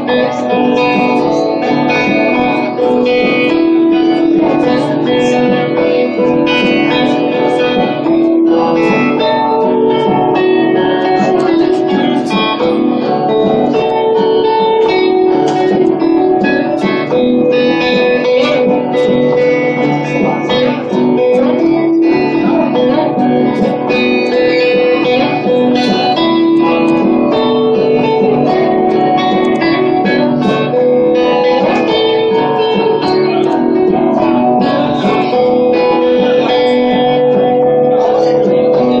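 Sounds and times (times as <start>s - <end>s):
electric guitar: 0.0s - 39.0s.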